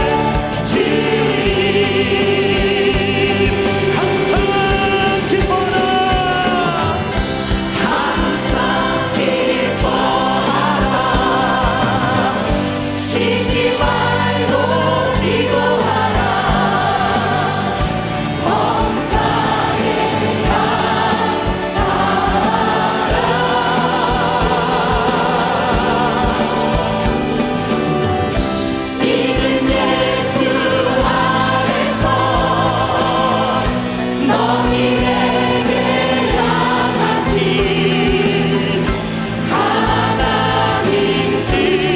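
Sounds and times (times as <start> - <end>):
band with bass and drums: 0.0 - 41.9
choir singing a hymn: 0.0 - 41.9.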